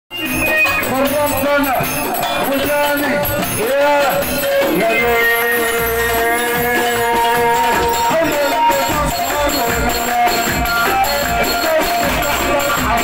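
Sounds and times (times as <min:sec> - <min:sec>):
reedy shawm melody: 0:00.1 - 0:13.0
tabla and percussion beat: 0:00.1 - 0:13.0.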